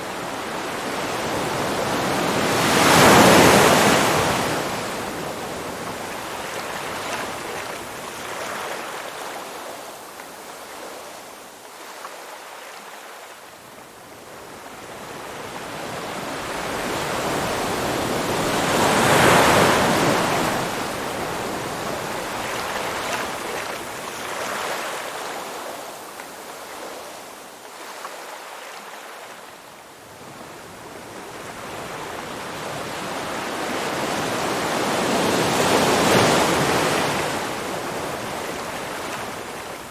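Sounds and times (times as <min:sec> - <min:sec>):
ocean waves: 0:00.0 - 0:39.9.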